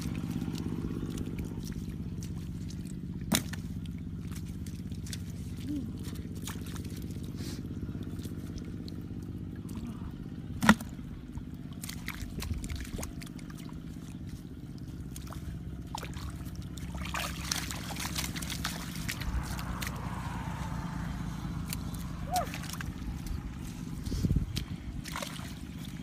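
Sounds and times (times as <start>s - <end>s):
hands splashing in muddy water: 0.0s - 26.0s
steady low hum: 0.0s - 26.0s.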